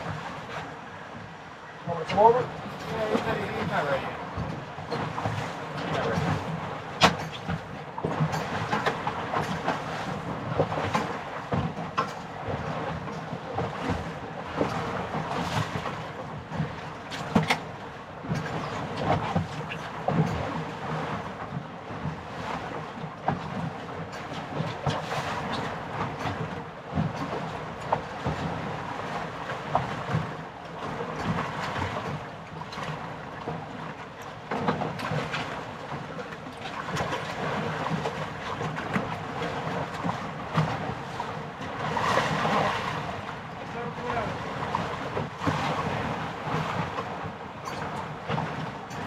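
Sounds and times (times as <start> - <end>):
water slapping boat hull: 0.0 - 49.0.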